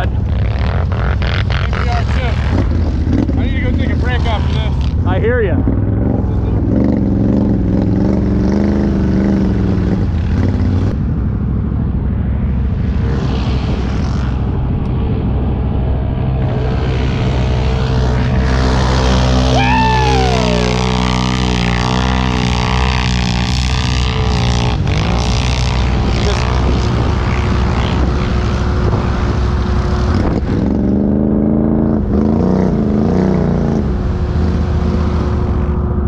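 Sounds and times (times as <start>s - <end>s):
atv engine running under load: 0.0s - 36.0s.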